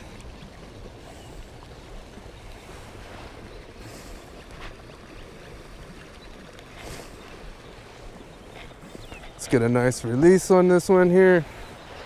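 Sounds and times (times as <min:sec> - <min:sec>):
water rushing at spillway: 0:00.0 - 0:12.0.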